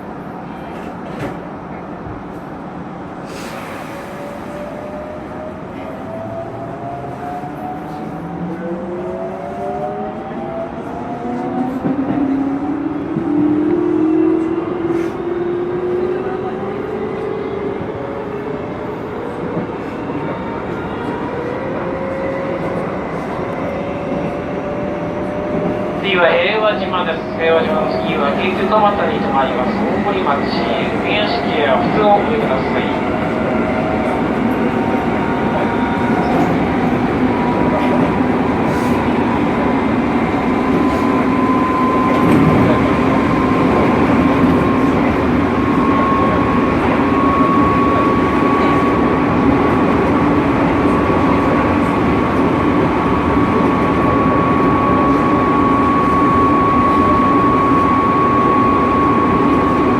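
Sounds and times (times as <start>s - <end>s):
train rolling rumble: 0.0s - 59.9s.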